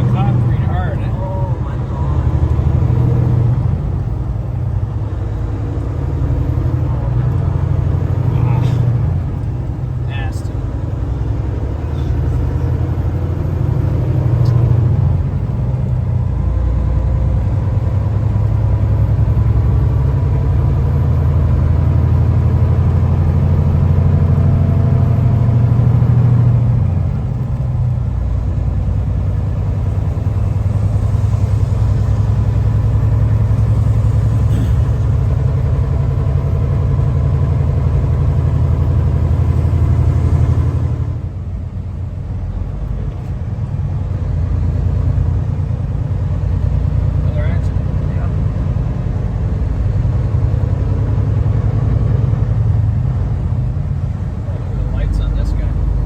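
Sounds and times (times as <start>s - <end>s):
truck engine and road rumble: 0.0s - 56.0s.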